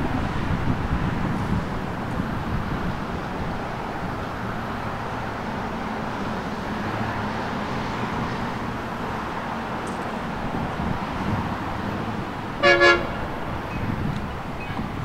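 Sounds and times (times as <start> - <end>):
train wheels and diesel rumble: 0.0 - 15.0.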